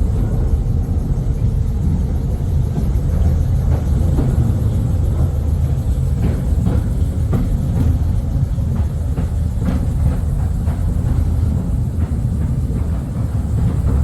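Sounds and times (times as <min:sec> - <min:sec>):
underground train rumbling in tunnel: 0:00.0 - 0:14.0.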